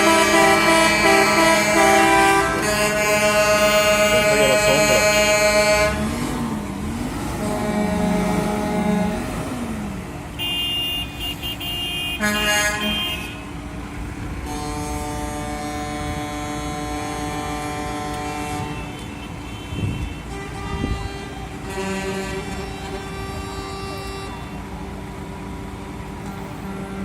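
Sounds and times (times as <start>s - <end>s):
truck air horn blasts: 0.0s - 6.3s, 6.9s - 9.7s, 10.3s - 13.6s, 14.4s - 24.7s
truck engines running: 0.0s - 27.0s.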